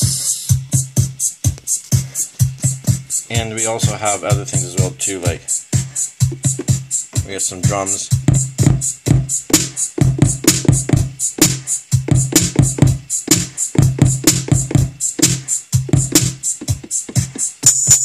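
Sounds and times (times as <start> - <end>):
electronic drum beat: 0.0 - 18.0
looping track with deep bass: 0.0 - 18.0.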